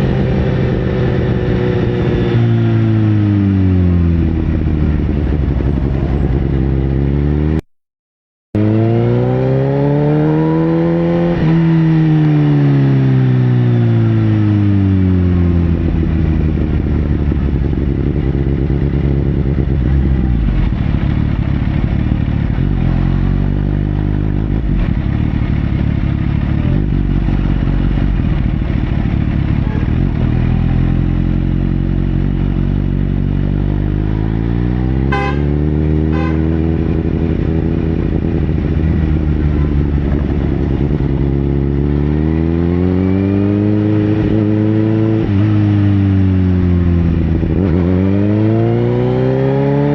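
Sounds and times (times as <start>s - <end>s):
motorcycle engine revving: 0.0s - 7.7s, 8.6s - 49.9s.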